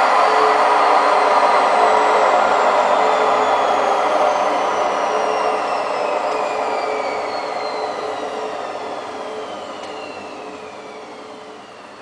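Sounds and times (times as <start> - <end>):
high whine falling in pitch: 0.0 - 12.0.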